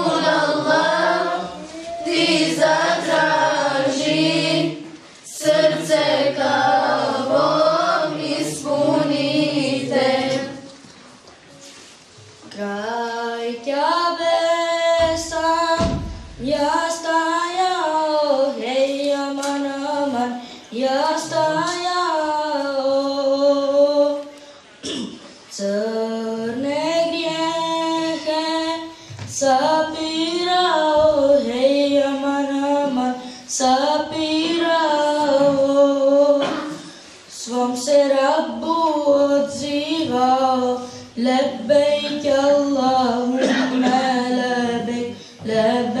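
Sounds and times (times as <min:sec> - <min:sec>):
child singing unaccompanied hymn: 0:00.0 - 0:10.9, 0:12.5 - 0:46.0.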